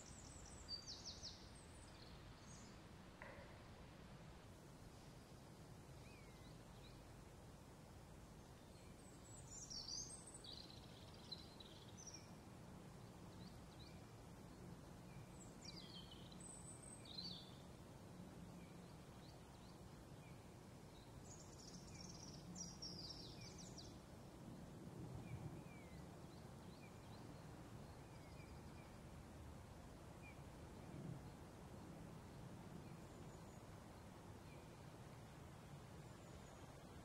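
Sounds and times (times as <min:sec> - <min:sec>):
faint outdoor background hum: 0:00.0 - 0:37.0
songbirds chirping: 0:00.0 - 0:37.0.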